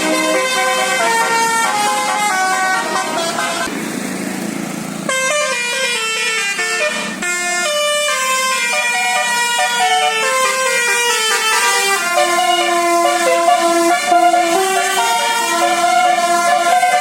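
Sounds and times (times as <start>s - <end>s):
bus musical horn melody: 0.0s - 3.8s, 5.0s - 17.0s.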